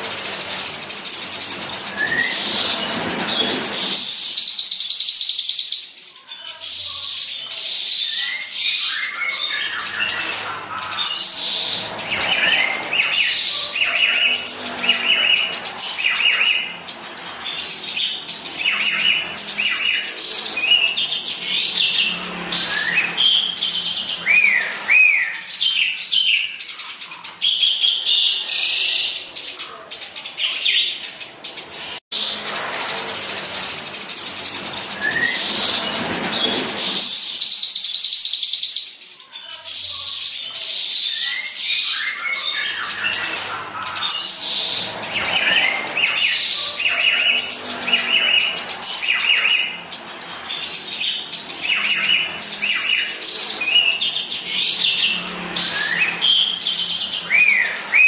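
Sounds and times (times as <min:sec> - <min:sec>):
sparrows chirping rapidly: 0:00.0 - 0:58.0.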